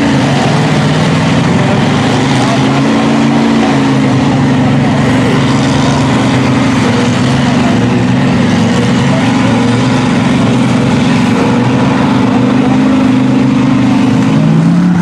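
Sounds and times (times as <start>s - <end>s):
truck engine running loud: 0.0s - 15.0s.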